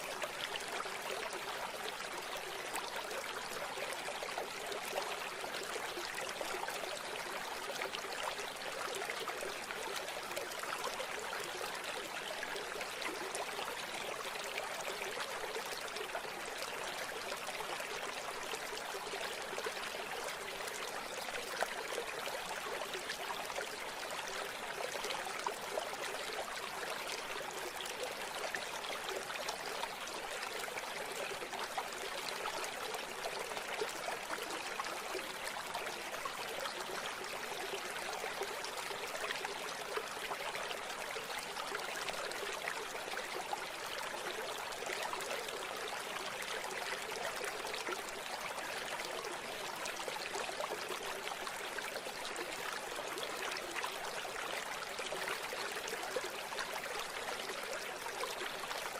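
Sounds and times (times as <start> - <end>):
stream flowing and babbling: 0.0 - 58.9.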